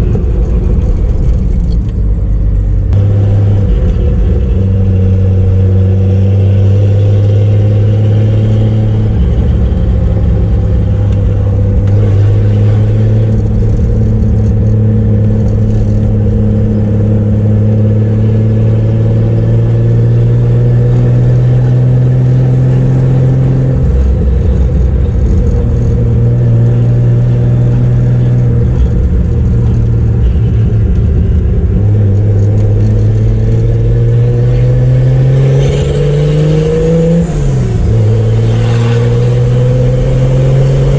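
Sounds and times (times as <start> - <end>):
car engine drone: 0.0 - 40.9.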